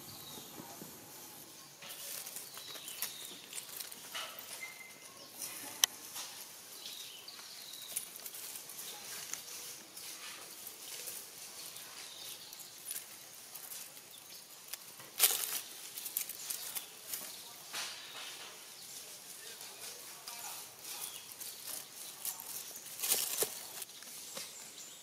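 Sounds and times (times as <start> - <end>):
dry leaves crackling underfoot: 0.0 - 25.0.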